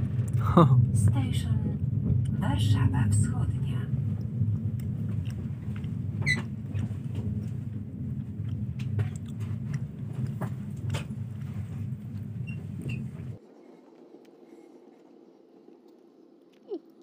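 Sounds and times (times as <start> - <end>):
train rumbling on rails: 0.0 - 16.4.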